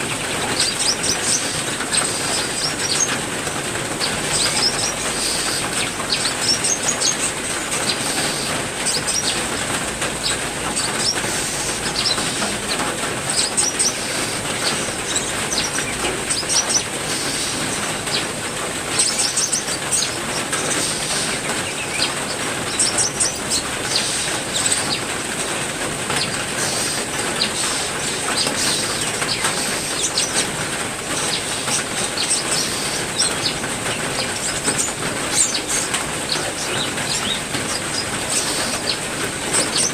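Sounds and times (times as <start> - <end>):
heavy rain: 0.0 - 39.9
songbirds chirping: 0.0 - 39.9.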